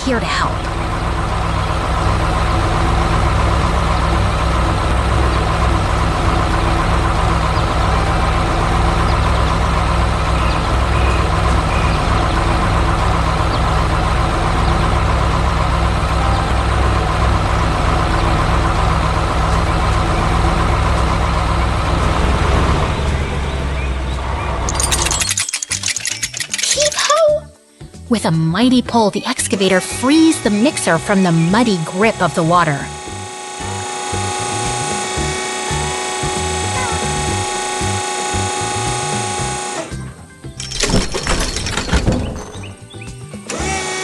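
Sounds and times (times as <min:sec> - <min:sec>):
heavy vehicle engine droning: 0:00.0 - 0:25.4, 0:28.1 - 0:44.0.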